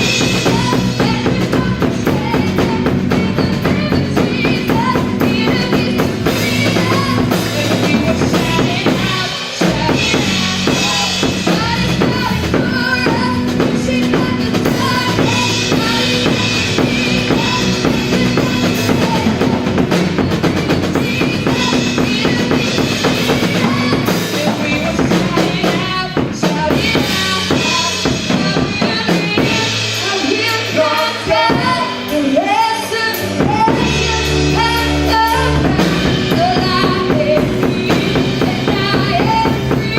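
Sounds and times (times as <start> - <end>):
bass guitar: 0.0 - 39.9
drum kit playing: 0.0 - 39.9
keyboard playing: 0.0 - 39.9.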